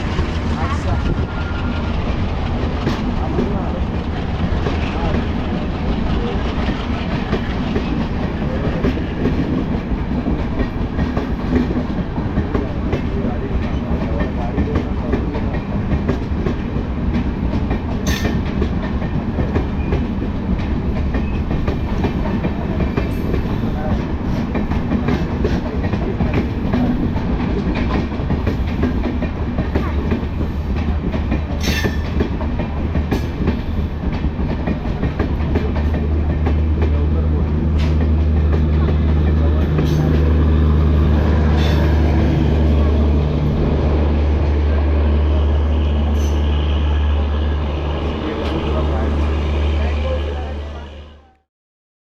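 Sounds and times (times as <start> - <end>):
train passing with rumble: 0.0 - 51.4.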